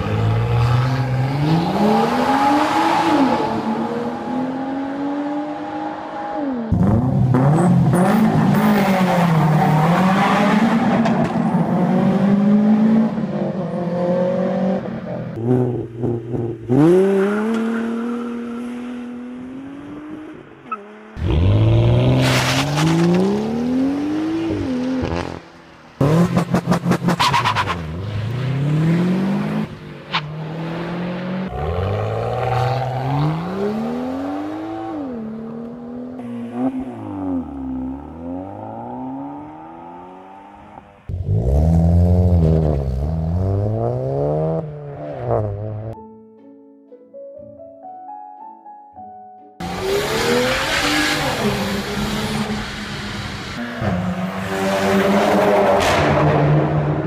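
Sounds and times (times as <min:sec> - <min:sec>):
car engines revving: 0:00.0 - 0:46.0, 0:49.6 - 0:57.0.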